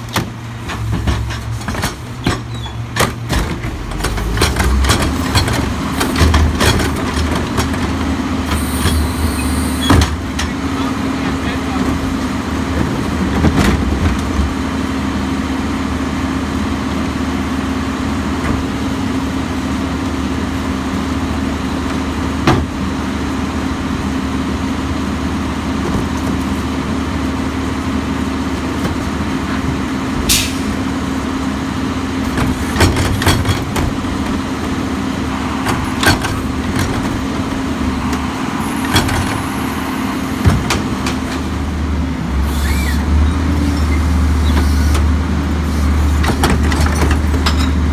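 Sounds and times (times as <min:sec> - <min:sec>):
garbage truck diesel engine running: 0:00.0 - 0:47.9.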